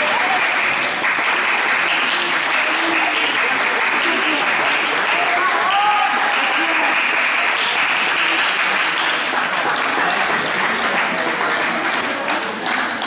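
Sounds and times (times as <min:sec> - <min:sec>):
spectators applauding: 0:00.0 - 0:13.0.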